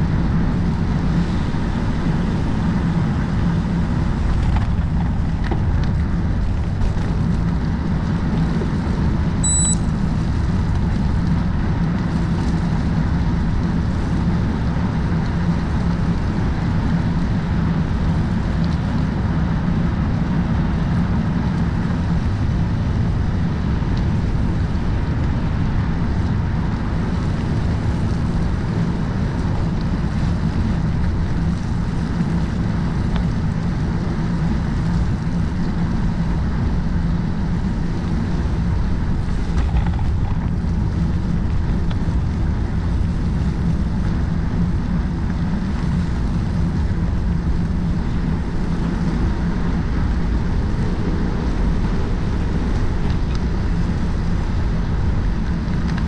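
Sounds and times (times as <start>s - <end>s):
tyres rumbling on road: 0.0s - 56.0s
wind rushing on microphone: 0.0s - 56.0s.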